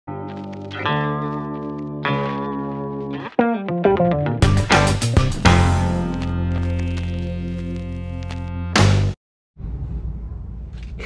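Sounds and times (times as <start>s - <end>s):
sustained guitar chords: 0.1s - 9.2s.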